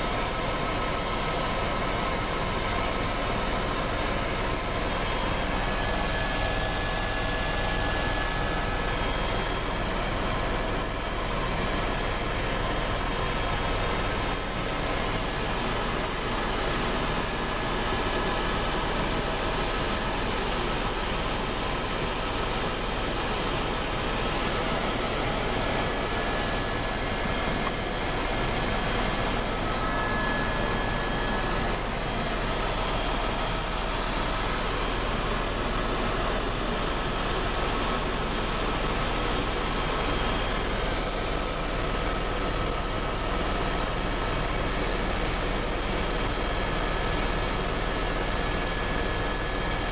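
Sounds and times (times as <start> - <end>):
faint steady whine: 0.0 - 49.9
helicopter engine and rotor: 0.0 - 49.9.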